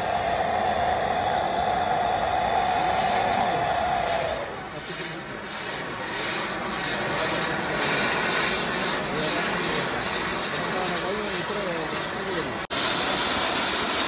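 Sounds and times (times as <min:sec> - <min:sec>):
firework crackle: 0:00.0 - 0:14.0
firework whistle: 0:00.0 - 0:14.0
fireworks hissing rush: 0:00.0 - 0:14.0.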